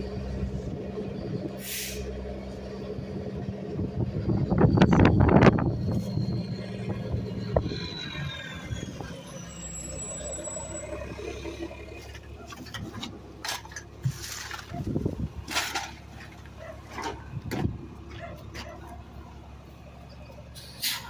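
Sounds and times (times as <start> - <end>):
garbage truck engine rumble: 0.0 - 21.0.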